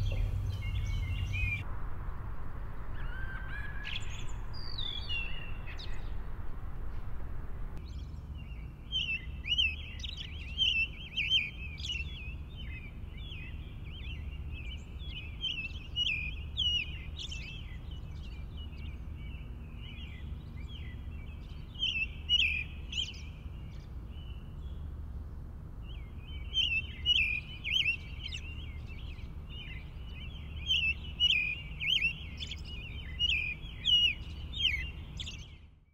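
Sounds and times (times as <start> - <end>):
small birds chirping: 0.0 - 1.6, 2.9 - 6.3, 7.8 - 35.9
low steady rumble: 0.0 - 35.6.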